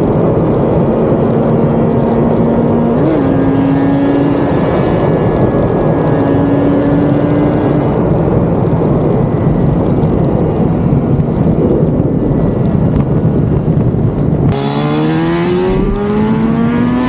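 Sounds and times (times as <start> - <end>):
motorcycle engine at constant revs: 0.0 - 17.0
wind rush over microphone: 0.0 - 17.0.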